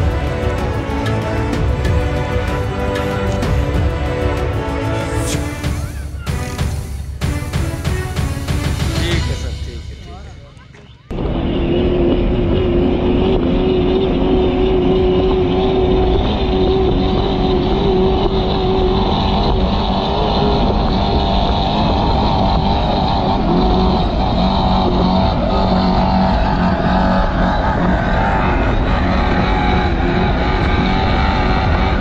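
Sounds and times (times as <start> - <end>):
truck engine running hard: 0.0 - 32.0.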